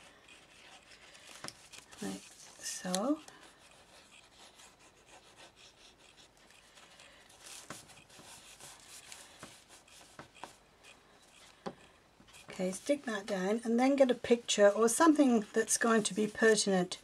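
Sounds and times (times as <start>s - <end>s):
paper and card rubbing: 0.0s - 16.7s.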